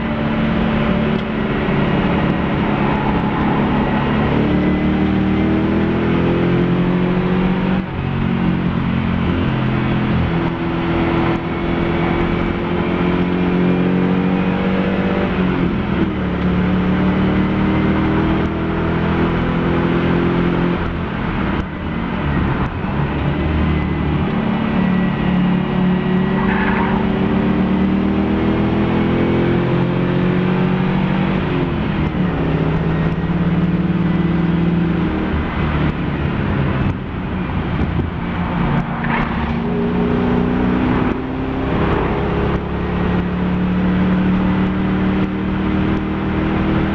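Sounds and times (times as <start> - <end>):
race car engine accelerating: 0.0 - 21.6, 22.2 - 37.0, 37.6 - 46.9.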